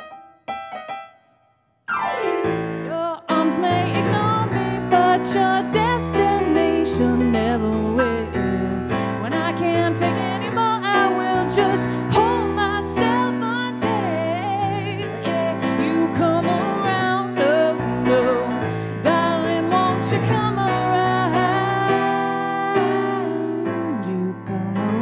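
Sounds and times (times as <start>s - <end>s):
woman singing with vibrato: 2.9s - 25.0s.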